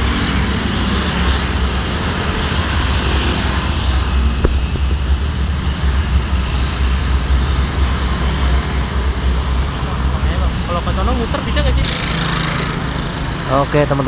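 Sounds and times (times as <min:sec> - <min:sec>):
cars passing: 0:00.0 - 0:14.0
deep traffic rumble: 0:00.0 - 0:14.0
motorcycles passing: 0:00.0 - 0:14.0.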